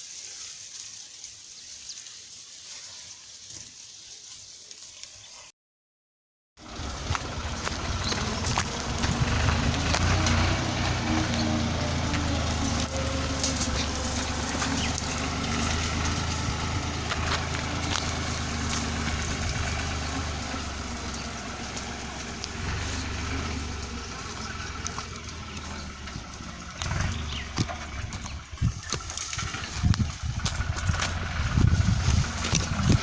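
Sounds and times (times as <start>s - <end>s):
tractor engine running: 6.6s - 33.0s.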